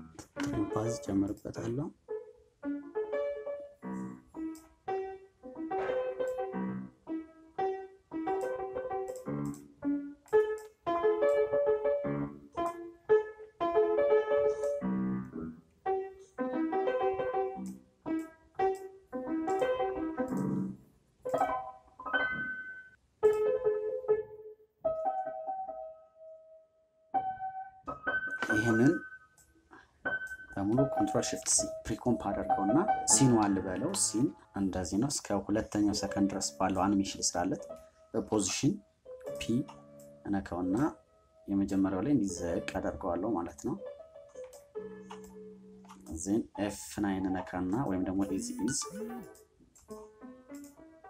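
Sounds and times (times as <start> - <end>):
piano music: 0.0 - 51.0.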